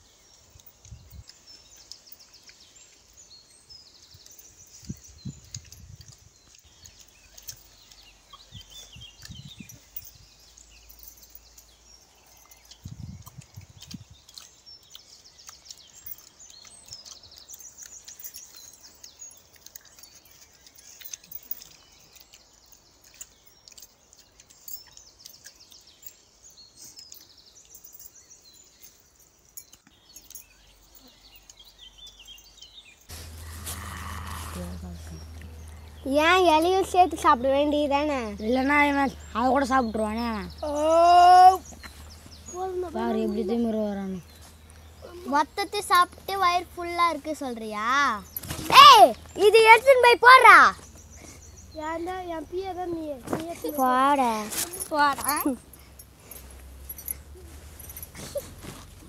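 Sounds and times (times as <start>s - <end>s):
birds chirping: 0.0s - 59.0s
outdoor background: 0.0s - 59.0s.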